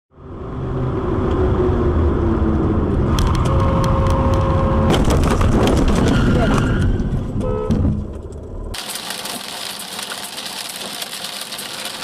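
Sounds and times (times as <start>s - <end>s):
car engine and road rumble: 0.1s - 12.0s.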